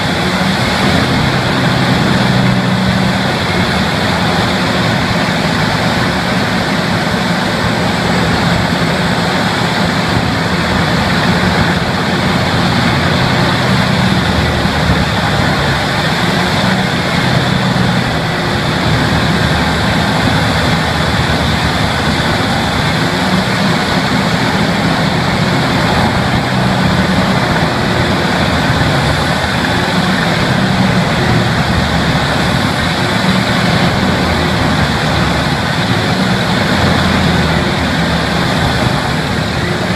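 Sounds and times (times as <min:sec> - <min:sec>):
heavy machine engine drone: 0:00.0 - 0:39.9.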